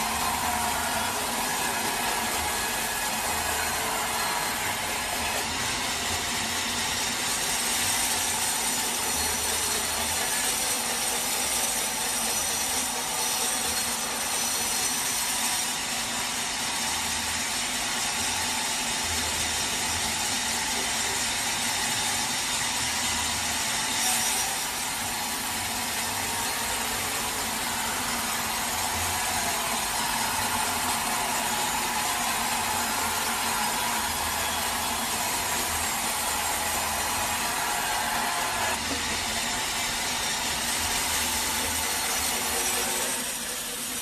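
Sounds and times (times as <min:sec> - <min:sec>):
sawmill saw cutting a log: 0:00.0 - 0:44.0.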